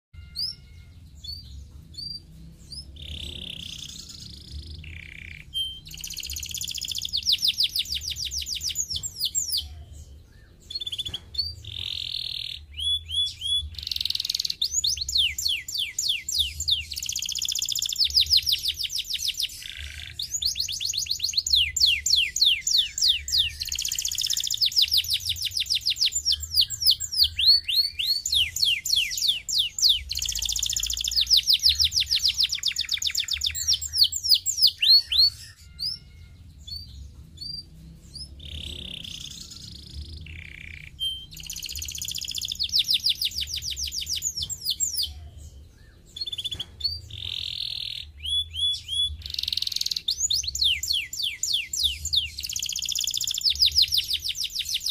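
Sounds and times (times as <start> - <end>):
canary singing trills: 0.1 - 54.9.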